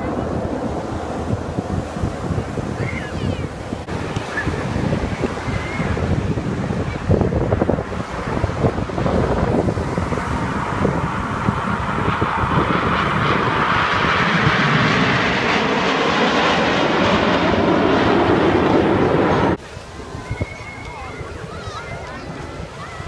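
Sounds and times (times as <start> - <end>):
aircraft flying past: 0.0 - 19.6.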